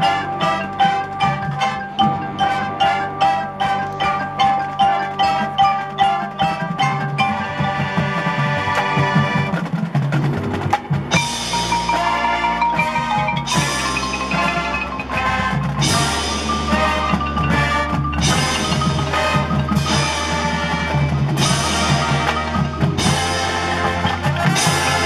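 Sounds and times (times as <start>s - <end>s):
drums: 0.0s - 25.0s
marching band playing: 0.0s - 25.0s
marimbas: 0.0s - 25.0s.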